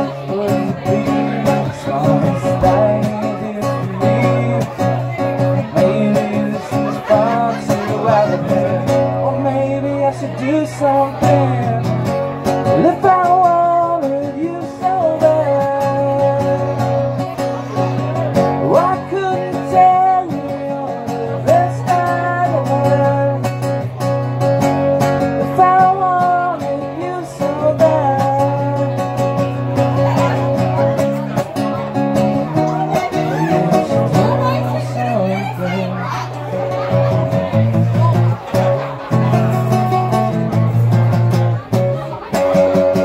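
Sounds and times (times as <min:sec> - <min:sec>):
man singing: 0:00.0 - 0:40.9, 0:41.8 - 0:43.0
acoustic guitar strumming: 0:00.0 - 0:43.0.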